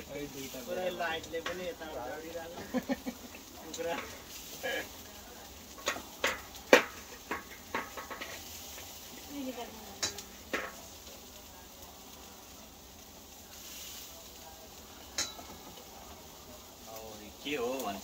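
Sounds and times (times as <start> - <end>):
metal utensils clinking on grill: 0.0 - 12.1, 13.5 - 18.0
faint steady hiss: 0.0 - 18.0.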